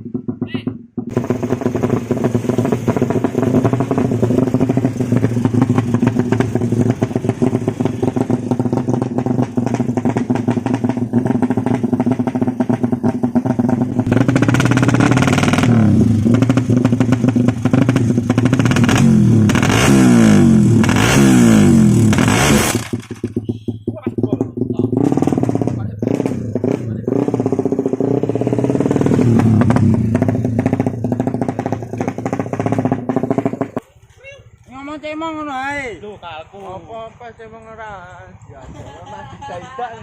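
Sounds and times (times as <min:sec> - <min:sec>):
motorcycle engine idling and revving: 0:00.0 - 0:38.5.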